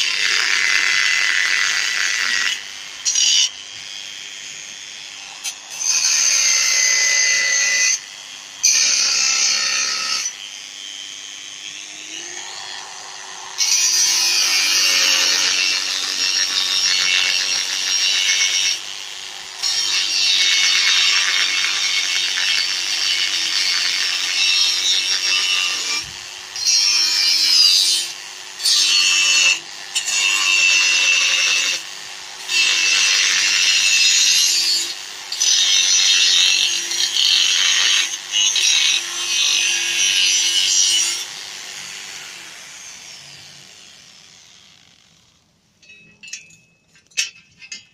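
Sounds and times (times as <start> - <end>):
angle grinder cutting steel: 0.0 - 45.4.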